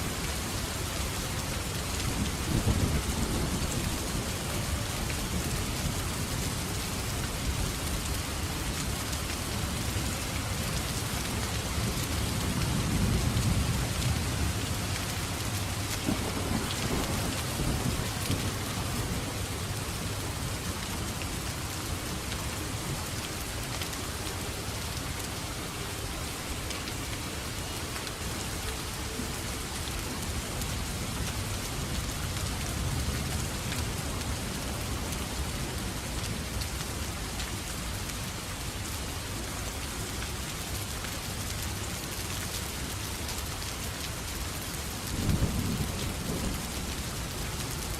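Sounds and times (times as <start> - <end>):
steady rain: 0.0 - 47.9.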